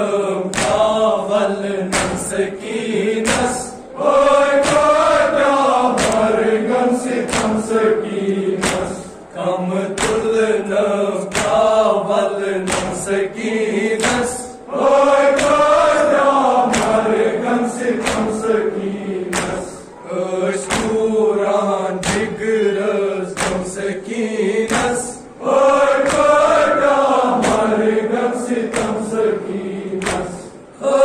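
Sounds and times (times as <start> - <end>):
group chanting in chorus: 0.0 - 31.0
sharp rhythmic beats: 0.5 - 9.3, 9.9 - 20.0, 20.6 - 21.3, 21.9 - 31.0.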